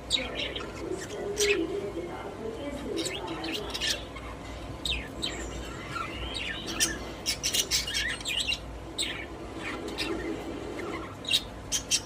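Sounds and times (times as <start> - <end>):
budgerigars chirping: 0.0 - 1.8, 2.8 - 12.0.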